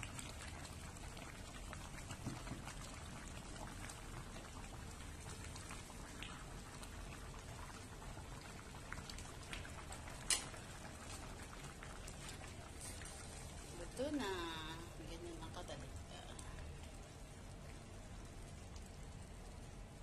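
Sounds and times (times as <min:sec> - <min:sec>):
vegetables bubbling in broth: 0:00.0 - 0:20.0.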